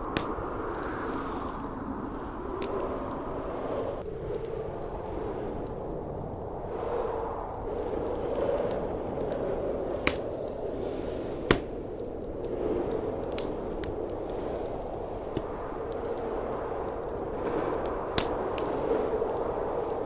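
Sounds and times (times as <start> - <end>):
rushing wind: 0.0 - 20.0
wood fire crackling: 0.0 - 20.0.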